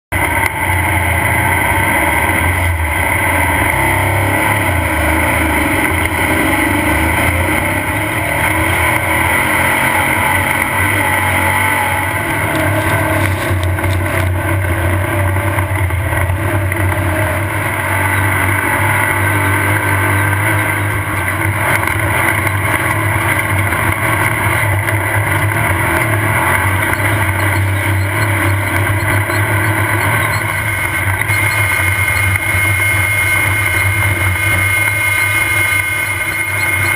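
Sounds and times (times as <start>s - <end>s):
buggy engine running loud: 0.0s - 36.9s.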